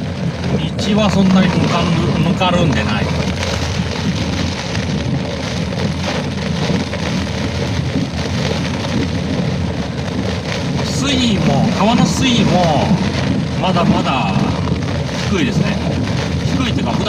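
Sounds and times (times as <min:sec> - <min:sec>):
heavy rain: 0:00.0 - 0:17.0
low rumble: 0:00.0 - 0:17.0
wind: 0:00.0 - 0:17.0.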